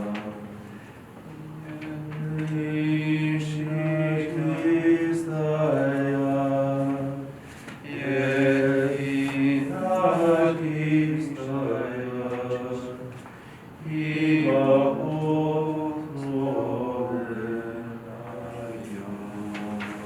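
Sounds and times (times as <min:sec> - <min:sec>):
unaccompanied liturgical chant: 0:00.0 - 0:20.0.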